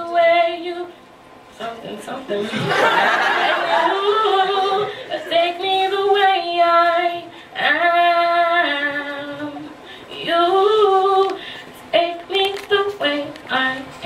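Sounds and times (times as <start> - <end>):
woman singing: 0.0 - 1.0, 1.6 - 2.7, 3.4 - 14.0.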